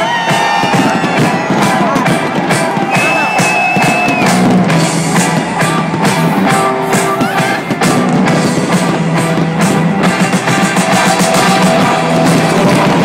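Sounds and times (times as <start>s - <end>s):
fireworks bursting: 0.0s - 13.0s
pop-rock music: 0.0s - 13.0s.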